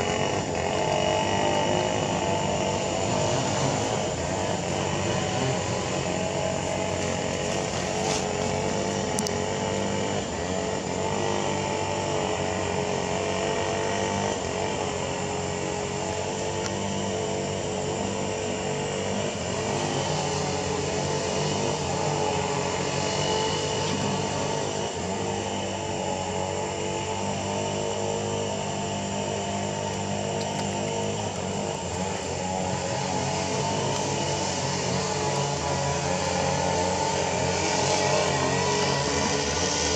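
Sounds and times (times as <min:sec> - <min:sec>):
steady motor drone: 0:00.0 - 0:39.9.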